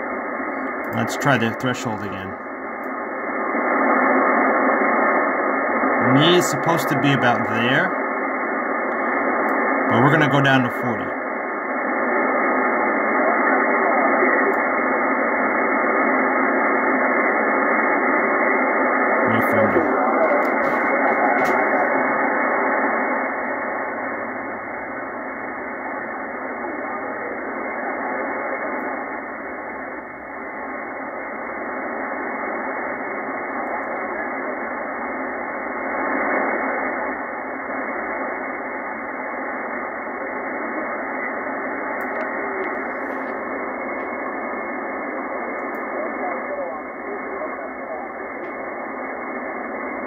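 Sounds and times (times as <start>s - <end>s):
weak radio voice: 0.0s - 11.4s, 12.0s - 24.6s, 25.6s - 31.4s, 32.0s - 50.0s
radio band noise hiss: 0.0s - 50.0s.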